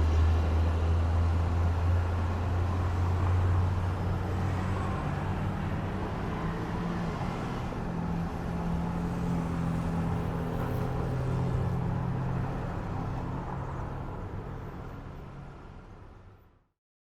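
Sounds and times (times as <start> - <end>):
road noise: 0.0 - 16.6.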